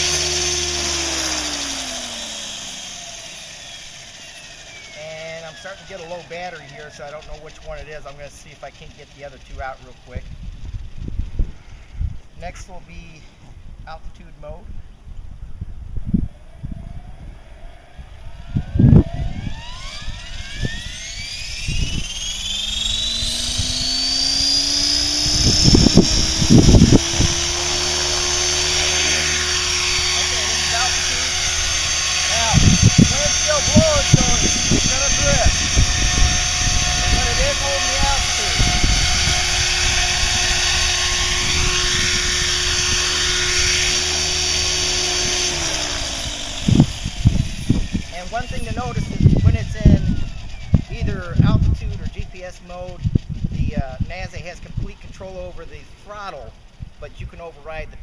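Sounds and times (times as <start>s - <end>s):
rc helicopter motor whine rising: 0.0s - 58.0s
wind buffeting microphone: 5.6s - 58.0s.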